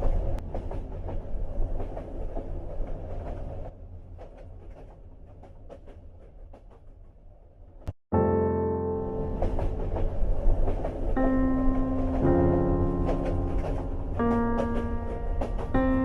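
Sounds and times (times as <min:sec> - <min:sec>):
train rumble with rail clicks: 0:00.0 - 0:08.0, 0:09.0 - 0:16.0.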